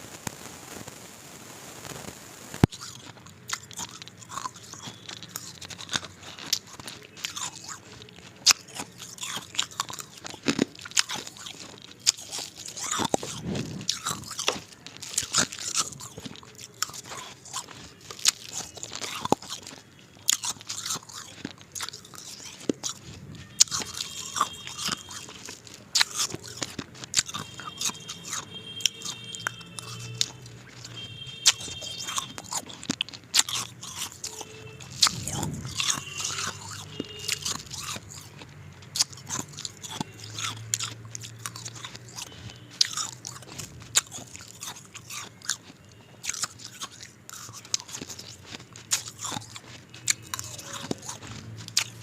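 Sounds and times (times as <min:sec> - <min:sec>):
chewing: 0:02.6 - 0:52.0
ice crunching between teeth: 0:02.6 - 0:52.0.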